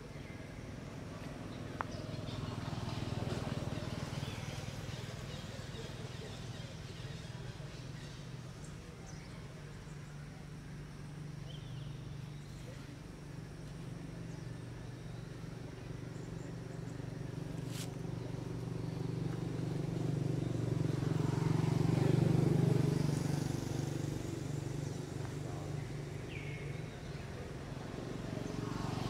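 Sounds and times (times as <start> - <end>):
passing vehicle engine hum: 0.0 - 29.0.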